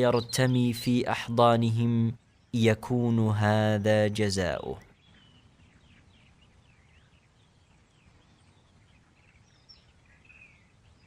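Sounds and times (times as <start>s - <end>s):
faint birds chirping: 0.0s - 11.0s
low background hiss: 0.0s - 11.0s.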